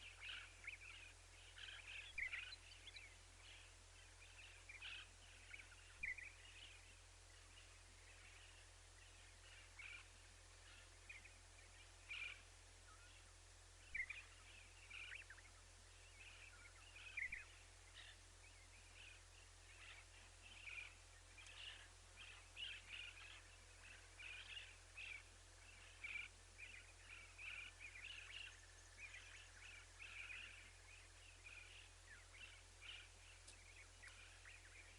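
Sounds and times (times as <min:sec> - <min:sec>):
faint bird chirps: 0:00.0 - 0:34.9
steady background hiss: 0:00.0 - 0:34.9.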